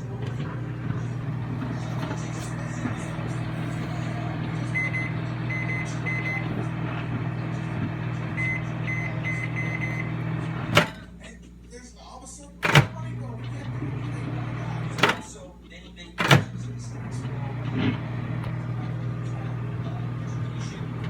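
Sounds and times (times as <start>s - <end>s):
microwave humming: 0.0s - 21.0s.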